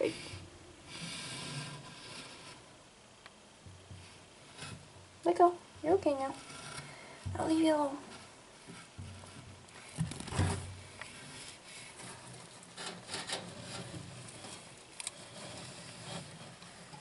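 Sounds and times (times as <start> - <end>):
hand rubbing and scraping: 0.0 - 2.8, 3.6 - 17.0.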